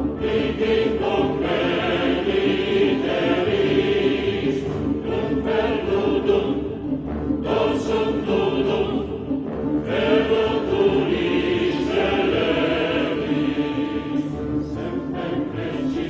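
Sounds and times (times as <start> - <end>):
choir singing long notes: 0.0 - 16.0.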